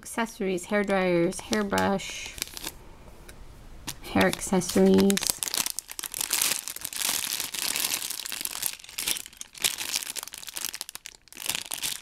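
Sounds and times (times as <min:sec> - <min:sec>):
plastic bags crinkling: 0:00.8 - 0:02.8, 0:03.8 - 0:12.0.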